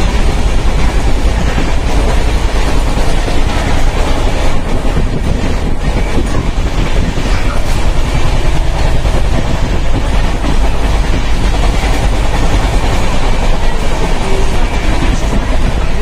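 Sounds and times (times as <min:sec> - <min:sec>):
passenger train running: 0:00.0 - 0:16.0.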